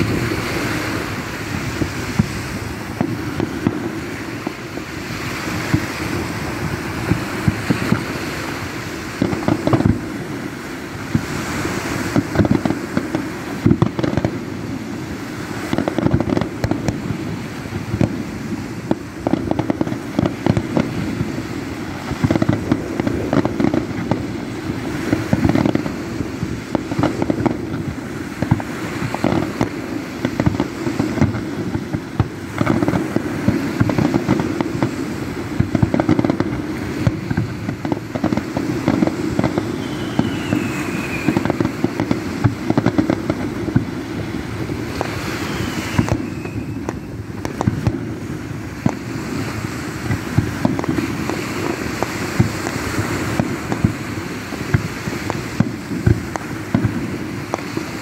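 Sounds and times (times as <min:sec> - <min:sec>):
firework shell bursts and crackling: 0:00.0 - 0:58.0.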